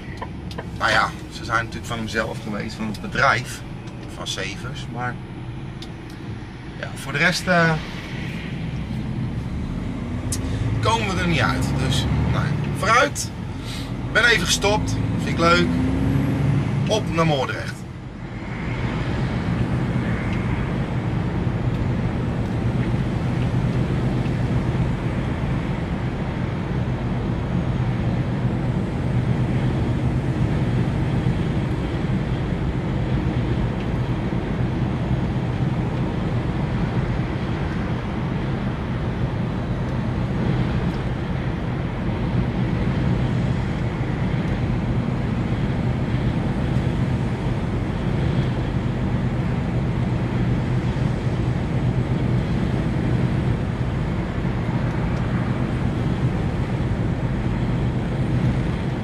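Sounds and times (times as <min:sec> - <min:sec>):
diesel engine drone: 0:00.0 - 0:59.0
tyres on wet road: 0:00.0 - 0:59.0.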